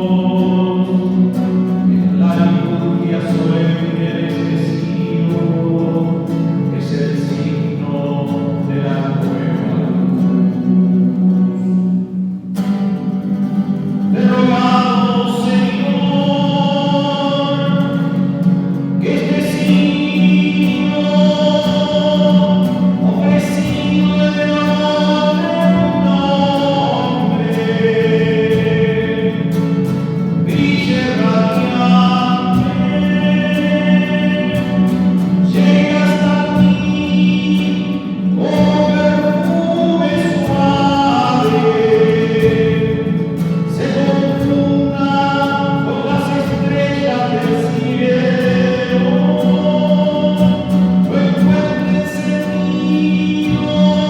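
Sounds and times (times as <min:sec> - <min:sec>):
choir singing a hymn: 0:00.0 - 0:11.7, 0:19.0 - 0:54.0.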